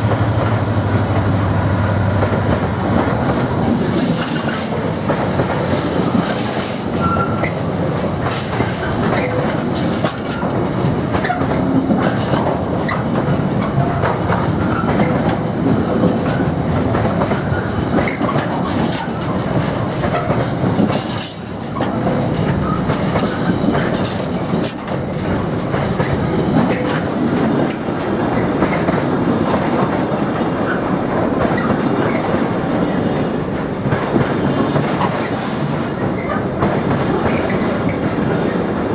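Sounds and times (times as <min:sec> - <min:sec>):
train rumbling past: 0:00.0 - 0:38.9
train wheels knocking on track: 0:00.0 - 0:38.9.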